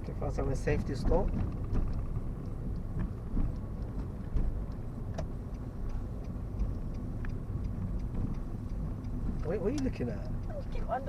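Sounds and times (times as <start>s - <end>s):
car engine and road rumble: 0.0s - 11.0s
faint small ticks: 0.6s - 10.7s.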